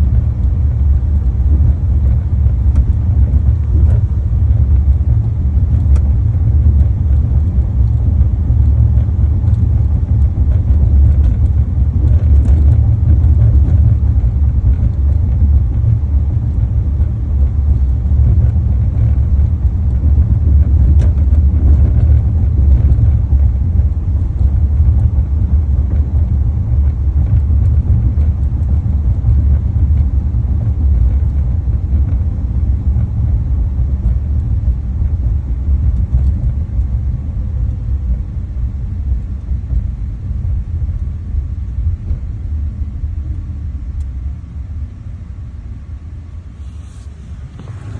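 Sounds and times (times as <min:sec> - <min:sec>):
low rumble: 0:00.0 - 0:47.9.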